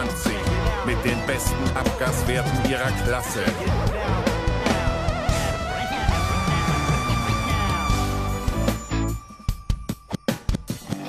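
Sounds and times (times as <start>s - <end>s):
instrumental theme music: 0.0s - 11.0s.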